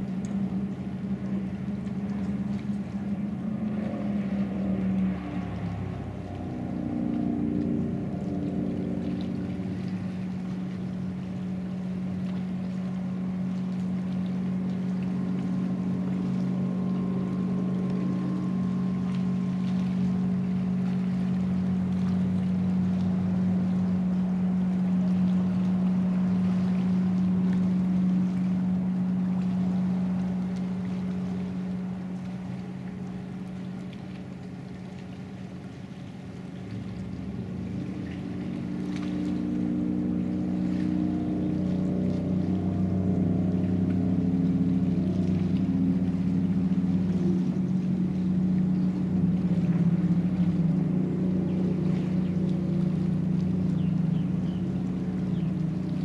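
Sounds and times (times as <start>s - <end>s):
motorboat engine humming: 0.0s - 56.0s.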